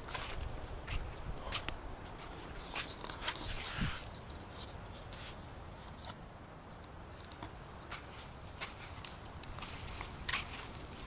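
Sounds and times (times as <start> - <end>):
footsteps and scuffing: 0.0 - 5.4, 7.4 - 11.0
scratchy rustle: 0.1 - 6.2, 7.9 - 11.0.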